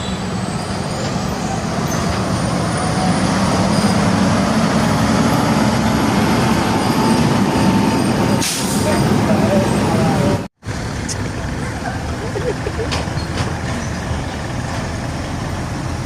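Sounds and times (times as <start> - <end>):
diesel truck engine rumble: 0.0 - 16.0
road traffic: 0.0 - 16.0.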